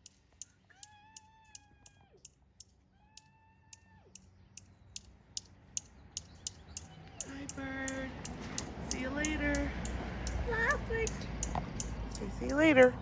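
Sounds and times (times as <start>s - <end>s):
bird chip calls: 0.0s - 12.7s.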